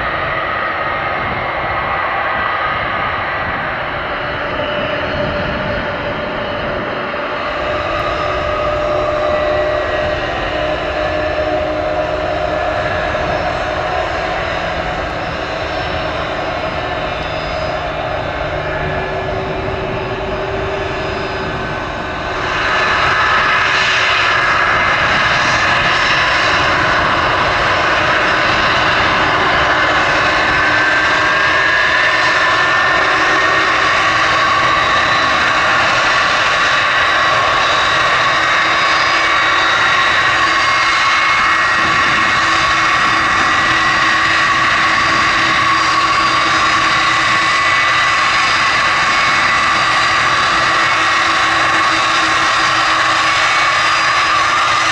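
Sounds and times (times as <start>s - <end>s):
jet engines whining and roaring: 0.0s - 54.9s.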